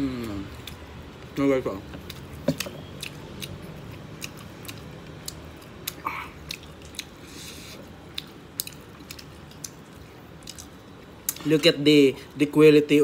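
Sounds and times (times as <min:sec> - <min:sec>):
person chewing meat: 0:00.0 - 0:11.5.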